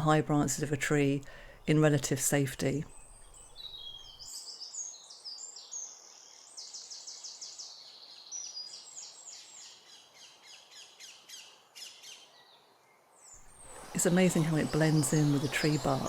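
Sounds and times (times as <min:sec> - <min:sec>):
small songbird singing: 0:00.0 - 0:16.0.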